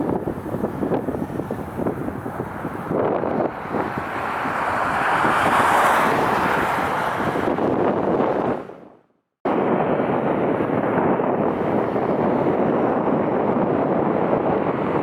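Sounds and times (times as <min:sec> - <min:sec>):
jet airliner roar: 0:00.0 - 0:08.6, 0:09.5 - 0:15.0
wind buffeting microphone: 0:00.0 - 0:15.0.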